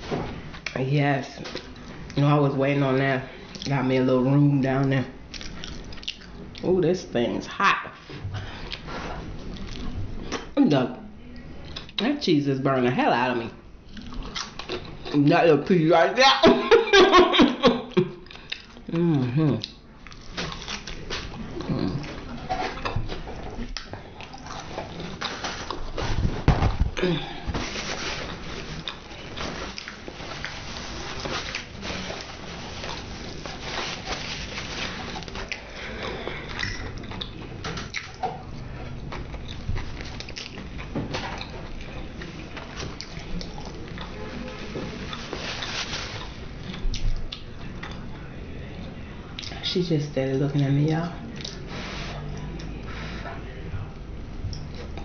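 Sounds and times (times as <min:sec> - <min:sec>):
close chewing and mouth sounds: 0:00.0 - 0:10.6, 0:11.3 - 0:12.2, 0:13.8 - 0:15.8, 0:17.8 - 0:55.0.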